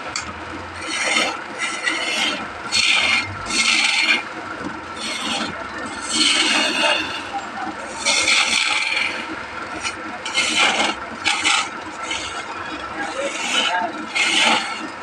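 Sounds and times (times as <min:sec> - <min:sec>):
wood being scraped: 0:00.2 - 0:15.0.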